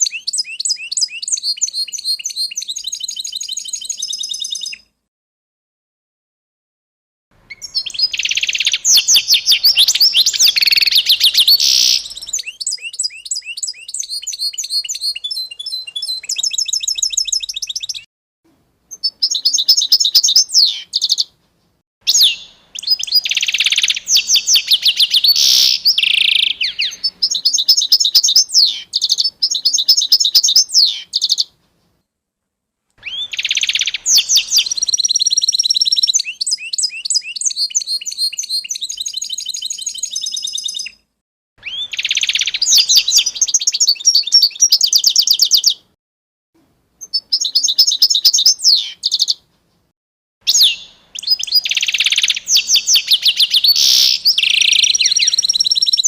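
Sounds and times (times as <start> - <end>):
songbird trilling and chirping: 0.0 - 4.8, 7.5 - 18.1, 18.9 - 21.3, 22.1 - 31.5, 33.0 - 41.0, 41.6 - 45.8, 47.0 - 49.4, 50.5 - 56.0.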